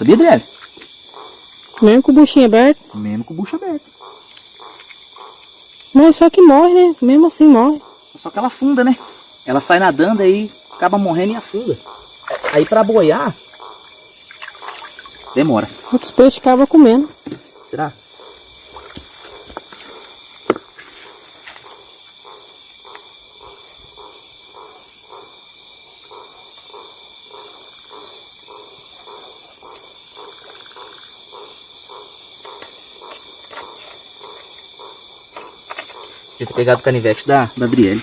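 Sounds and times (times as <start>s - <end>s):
crickets and insects chirping: 0.0s - 38.0s.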